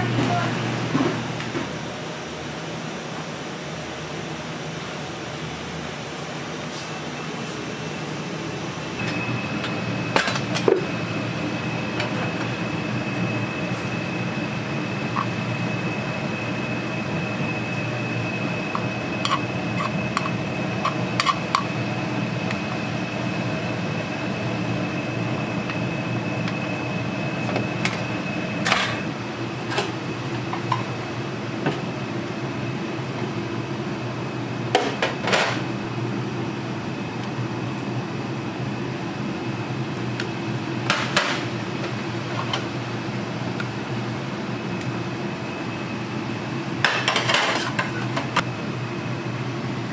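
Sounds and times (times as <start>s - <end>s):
fan hum with high whine: 0.0s - 49.9s.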